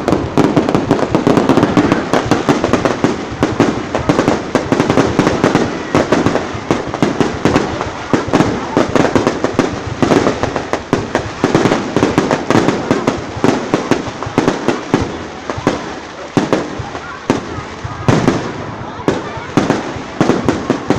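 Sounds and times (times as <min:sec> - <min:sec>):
fireworks bursting: 0:00.0 - 0:20.9.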